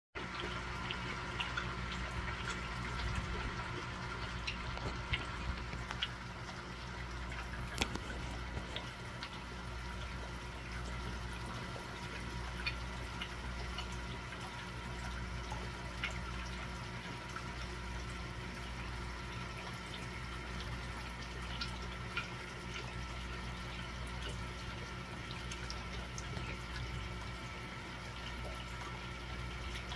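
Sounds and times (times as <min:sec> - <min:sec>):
water trickling: 0:00.2 - 0:29.9.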